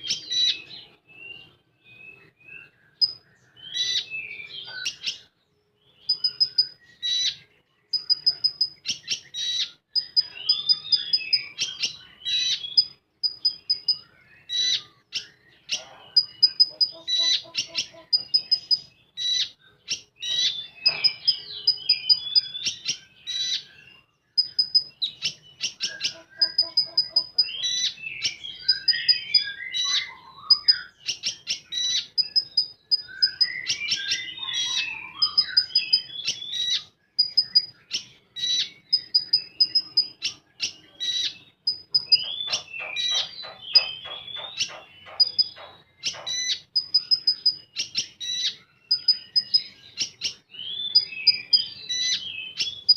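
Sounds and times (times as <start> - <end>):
songbird singing fast trills: 0.0 - 52.9.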